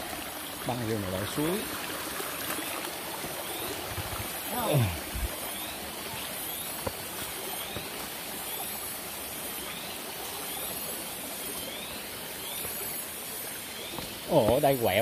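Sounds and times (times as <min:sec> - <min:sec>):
forest stream flowing: 0:00.0 - 0:15.0.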